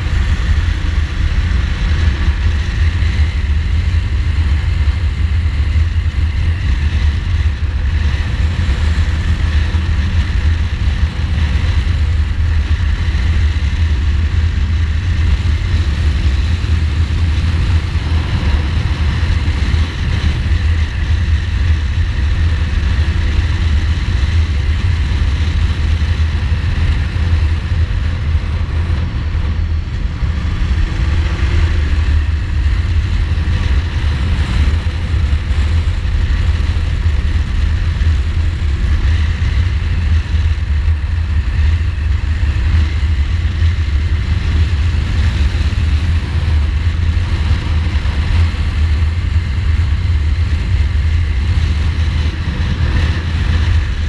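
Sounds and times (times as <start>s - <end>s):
low wind rumble on microphone: 0.0s - 54.0s
motorcycle engine cruising: 0.0s - 54.0s.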